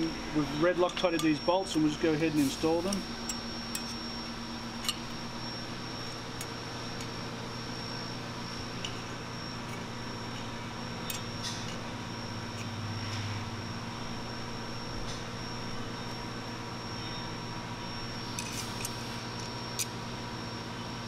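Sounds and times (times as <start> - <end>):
shop background hum: 0.0 - 21.0.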